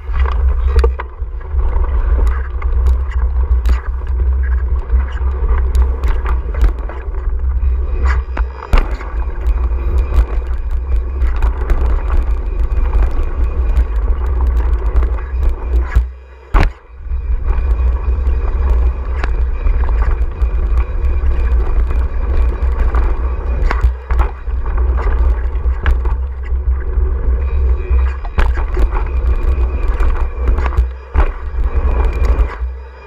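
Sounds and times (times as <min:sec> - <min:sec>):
bike clicks and rattles: 0:00.0 - 0:33.0
bike tyre roar on dirt: 0:00.0 - 0:33.0
wind buffeting on camera: 0:00.0 - 0:33.0.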